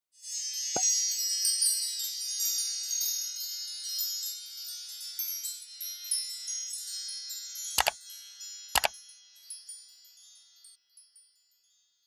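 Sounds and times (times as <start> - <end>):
wind chimes ringing: 0.2 - 12.0.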